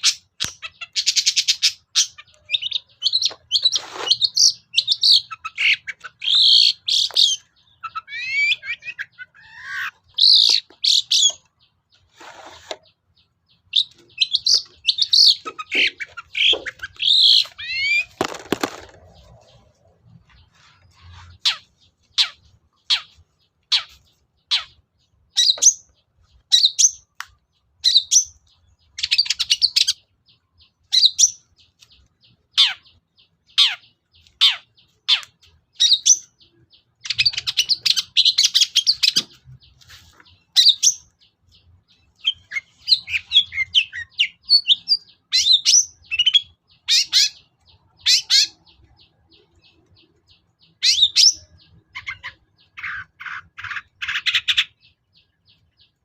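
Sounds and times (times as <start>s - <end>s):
harsh bird chattering: 0.0s - 27.2s, 32.5s - 41.2s, 42.2s - 55.4s
bird singing: 0.0s - 56.0s.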